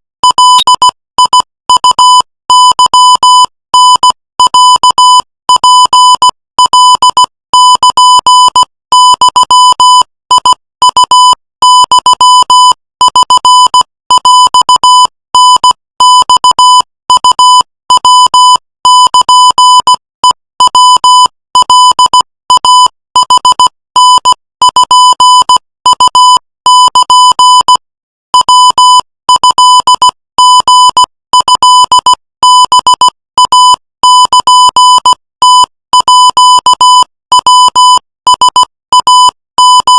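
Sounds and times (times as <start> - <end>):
morse code beeps: 0.2 - 39.9.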